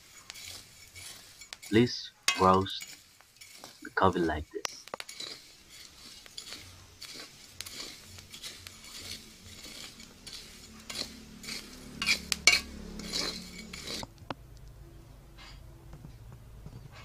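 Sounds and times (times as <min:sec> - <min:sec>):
wooden stick stirring roasting beans: 0:00.0 - 0:14.4.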